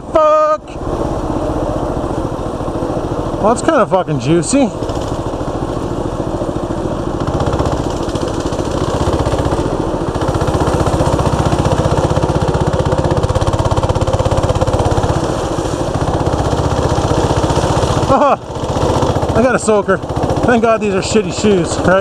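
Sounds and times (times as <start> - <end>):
mini bike engine running hard: 0.8 - 22.0.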